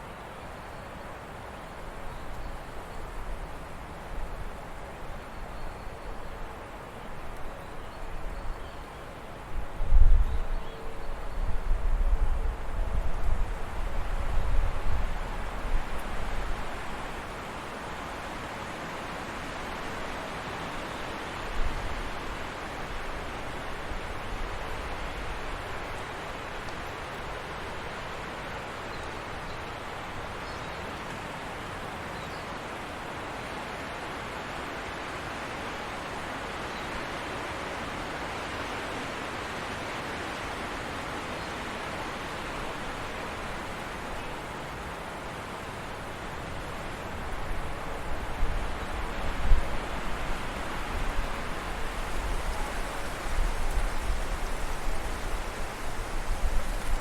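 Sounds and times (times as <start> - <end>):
forest stream flowing: 0.0 - 57.0.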